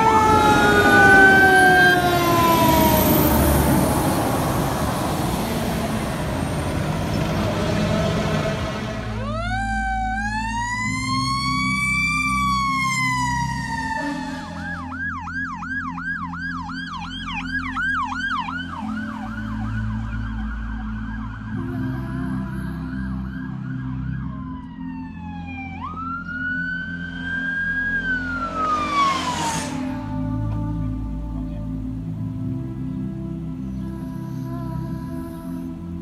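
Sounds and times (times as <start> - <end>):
electronic sirens wailing and yelping: 0.0 - 30.3
low engine rumble: 0.0 - 36.0.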